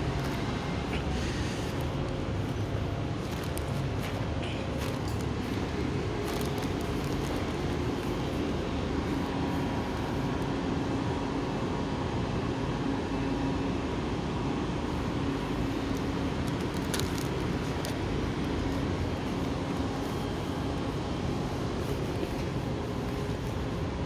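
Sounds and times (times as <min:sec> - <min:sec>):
train electrical hum: 0:00.0 - 0:24.0.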